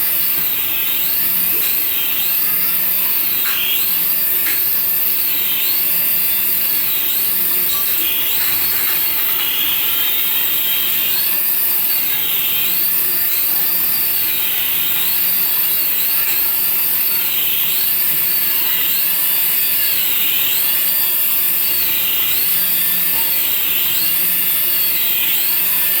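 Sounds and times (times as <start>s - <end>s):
toy electronic rising whine: 0.0s - 26.0s.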